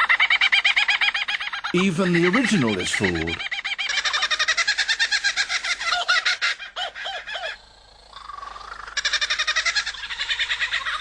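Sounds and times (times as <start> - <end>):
bird laughing call: 0.0 - 7.6, 8.9 - 11.0.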